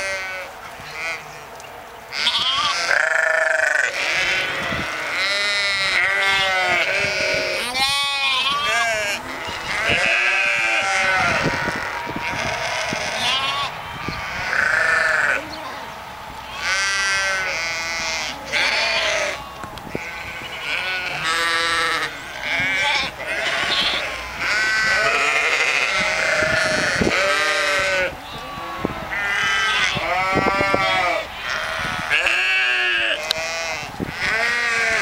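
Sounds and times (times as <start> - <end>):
lambs bleating: 0.0 - 1.2, 2.1 - 15.5, 16.5 - 35.0.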